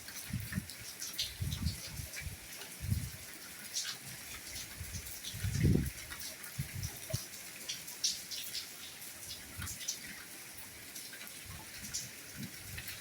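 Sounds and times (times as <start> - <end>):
light rain hiss: 0.0 - 13.0.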